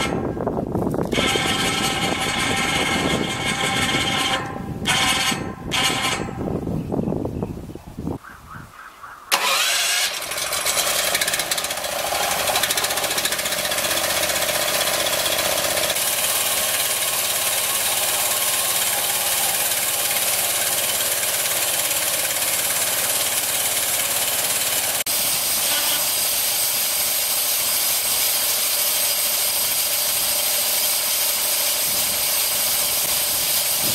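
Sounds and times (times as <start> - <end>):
small engine running sawmill: 0.0 - 6.5, 9.3 - 33.9.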